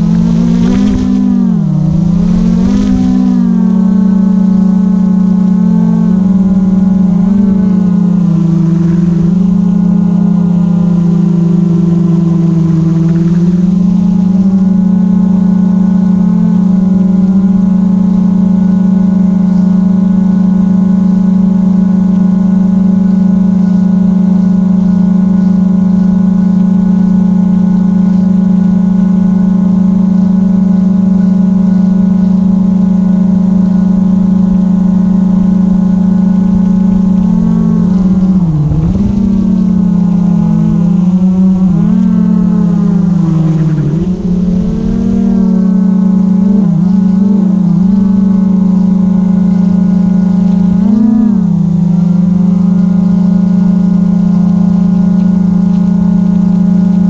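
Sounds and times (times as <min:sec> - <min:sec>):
drone propellers buzzing: 0:00.0 - 0:57.0.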